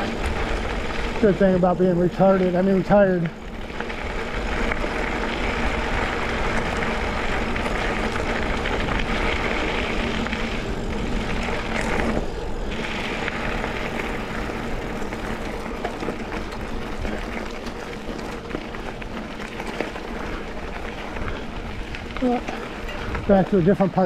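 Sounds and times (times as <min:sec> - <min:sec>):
bike tyres rolling on dirt: 0:00.0 - 0:24.0.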